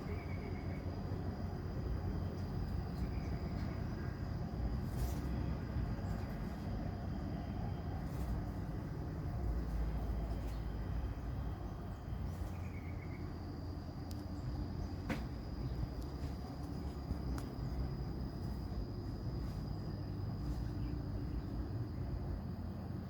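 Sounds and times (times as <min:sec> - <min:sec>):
low rumbling background noise: 0:00.0 - 0:23.0
steady high-pitched whine: 0:00.0 - 0:23.0.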